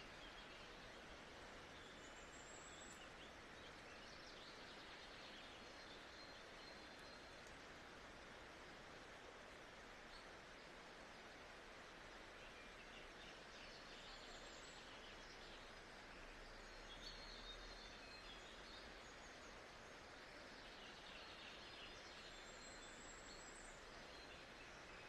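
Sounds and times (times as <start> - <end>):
soft steady hiss: 0.0 - 25.0.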